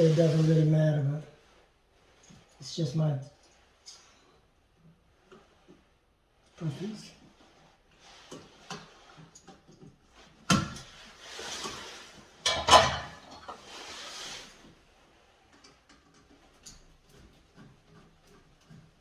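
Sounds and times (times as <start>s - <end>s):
scraping rustle: 0.0s - 4.3s, 5.0s - 19.0s.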